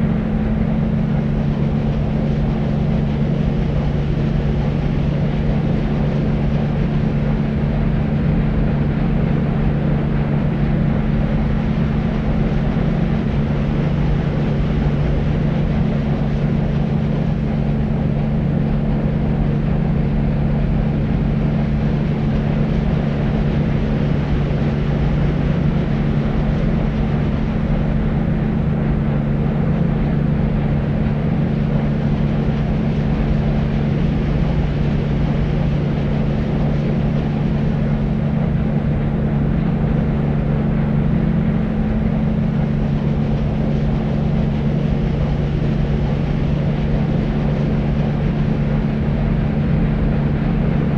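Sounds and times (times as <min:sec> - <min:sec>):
deep white noise: 0:00.0 - 0:50.9.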